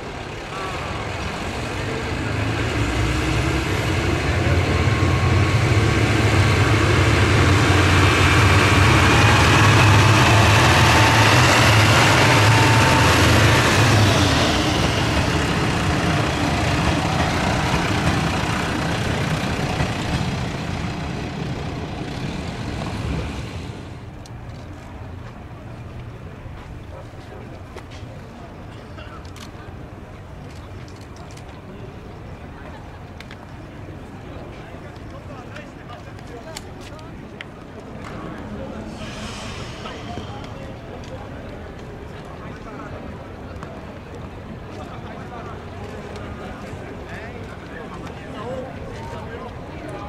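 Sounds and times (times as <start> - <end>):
diesel train engine rumble: 0.0 - 50.0.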